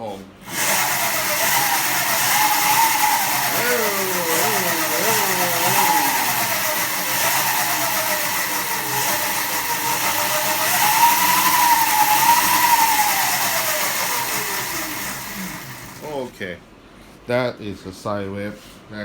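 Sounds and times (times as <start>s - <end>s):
electric motor whining: 0.4s - 16.3s.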